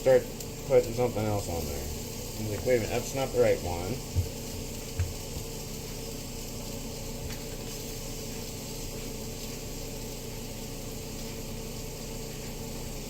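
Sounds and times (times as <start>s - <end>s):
constant low hum: 0.0s - 13.0s
potatoes and onions sizzling in a pan: 0.0s - 13.0s.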